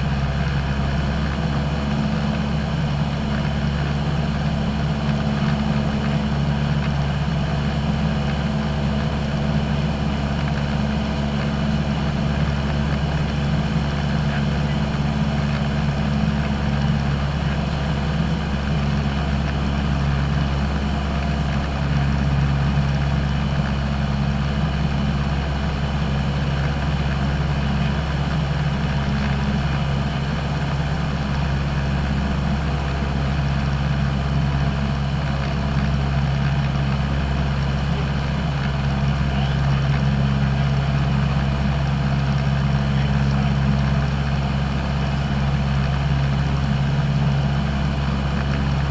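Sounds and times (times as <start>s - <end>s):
light aircraft engine drone: 0.0s - 48.9s.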